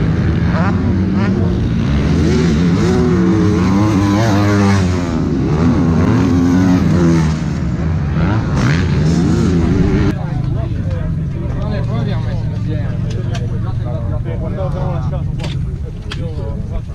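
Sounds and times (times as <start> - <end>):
motocross bike engines revving: 0.0 - 16.9.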